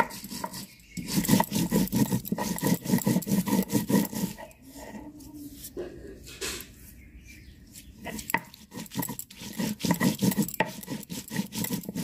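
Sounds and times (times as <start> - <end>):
stone roller scraping on stone: 0.0 - 5.7, 7.9 - 12.0.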